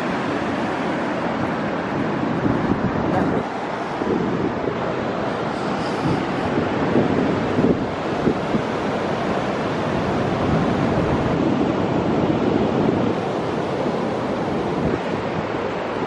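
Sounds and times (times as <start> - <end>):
ocean waves breaking: 0.0 - 16.0
wind on microphone: 0.0 - 16.0.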